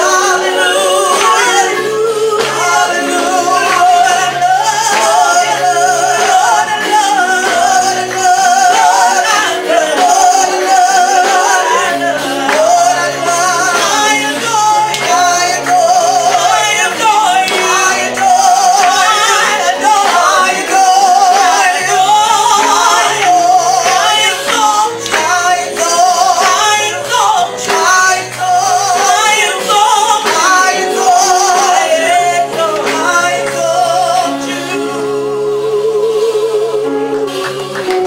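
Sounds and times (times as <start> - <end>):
person singing with vibrato: 0.0 - 38.0.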